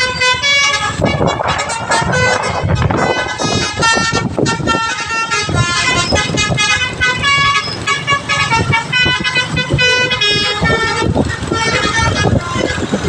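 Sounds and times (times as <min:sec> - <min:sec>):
musical bus horn melody: 0:00.0 - 0:13.0
rumbling engine: 0:00.0 - 0:13.0
street noise: 0:00.0 - 0:13.0.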